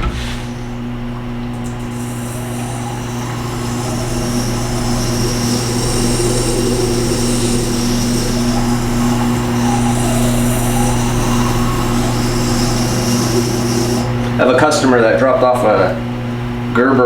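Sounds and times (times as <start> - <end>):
grinder motor humming: 0.0 - 14.9.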